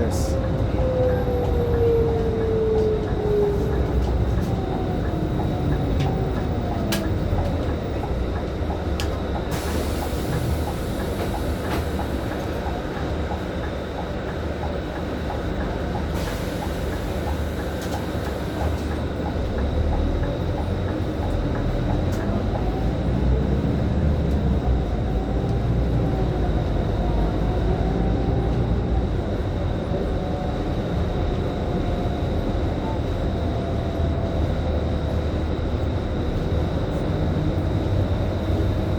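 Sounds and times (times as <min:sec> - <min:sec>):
bus engine droning: 0:00.0 - 0:38.9.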